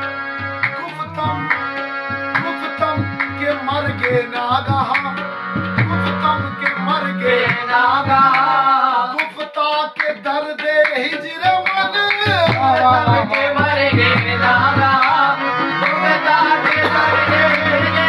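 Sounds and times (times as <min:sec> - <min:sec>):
harmonium: 0:00.0 - 0:18.0
tabla drumming: 0:00.0 - 0:18.0
person clapping along: 0:00.4 - 0:18.0
lead singer's voice: 0:00.7 - 0:18.0.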